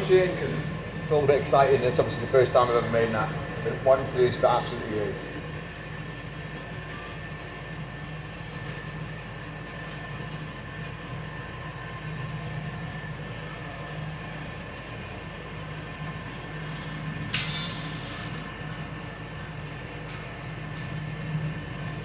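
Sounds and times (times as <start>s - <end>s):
workshop equipment humming: 0.0s - 22.0s.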